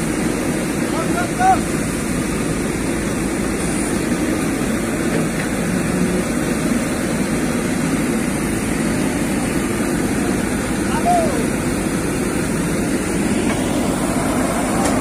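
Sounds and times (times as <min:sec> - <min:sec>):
heavy diesel engines under load: 0:00.0 - 0:15.0.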